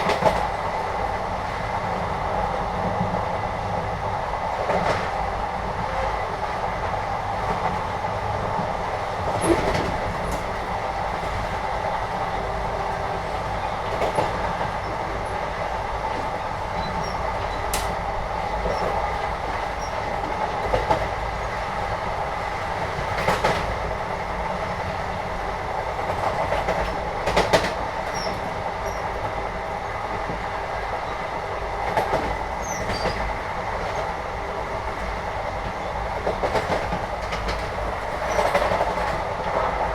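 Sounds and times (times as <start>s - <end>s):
train rumble and hum: 0.0s - 39.9s.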